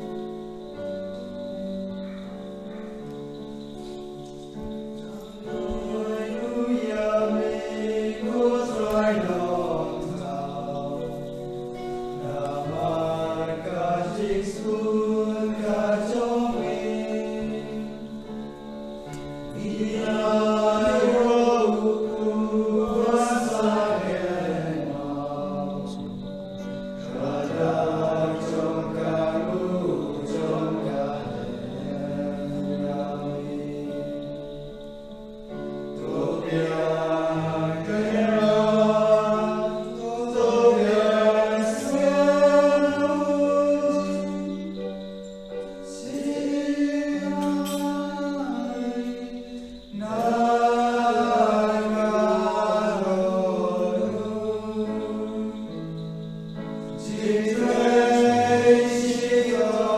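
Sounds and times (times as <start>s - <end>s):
keyboard chords: 0.0s - 59.9s
people singing a hymn: 0.0s - 59.9s.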